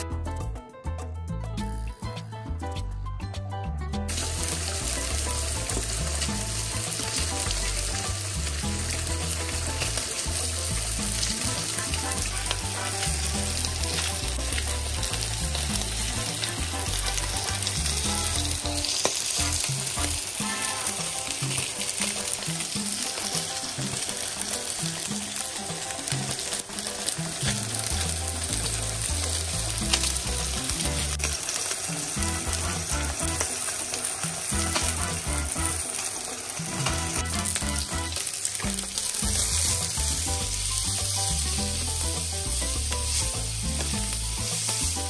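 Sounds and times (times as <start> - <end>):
fish frying in a pan: 4.1 - 45.0.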